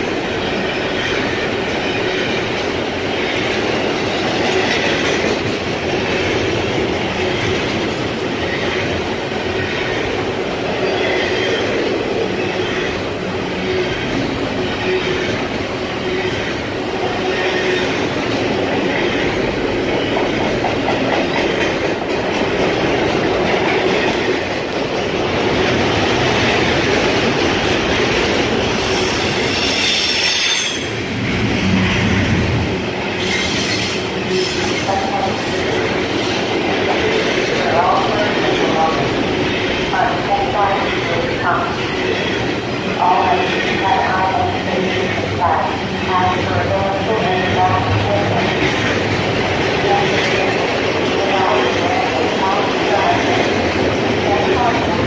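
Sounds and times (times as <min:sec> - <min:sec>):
steel train wheels on rails: 0:00.0 - 0:55.0.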